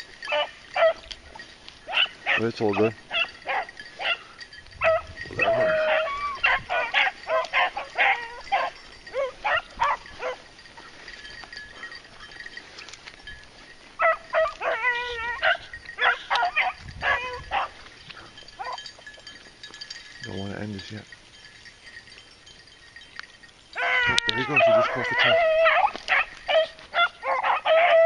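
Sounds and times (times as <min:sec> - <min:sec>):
dogs baying: 0:00.0 - 0:20.2, 0:21.6 - 0:28.0.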